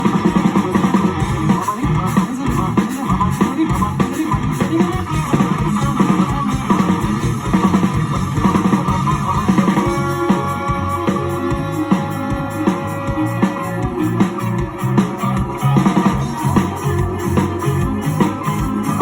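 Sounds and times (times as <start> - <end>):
bass line: 0.0 - 19.0.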